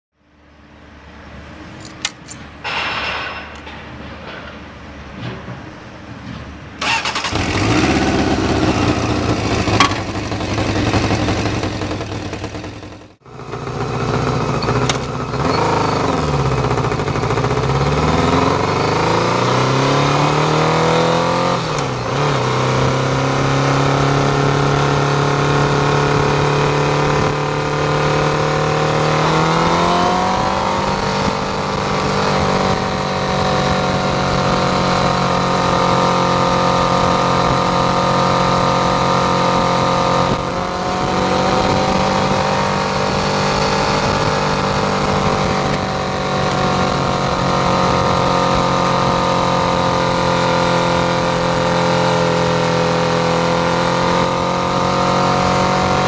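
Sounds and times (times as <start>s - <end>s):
motorcycle engine revving through gears: 6.8s - 56.0s
motorcycle engine starting: 6.8s - 56.0s.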